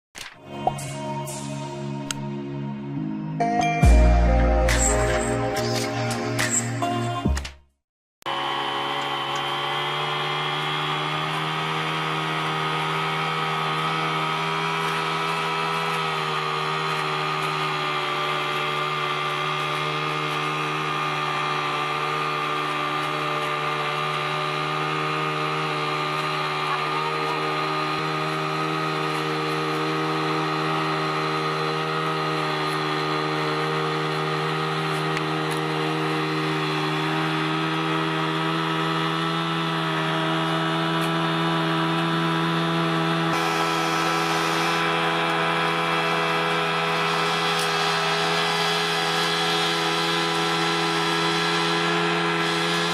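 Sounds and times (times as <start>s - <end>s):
machine engine running: 4.7s - 6.8s, 8.3s - 52.9s.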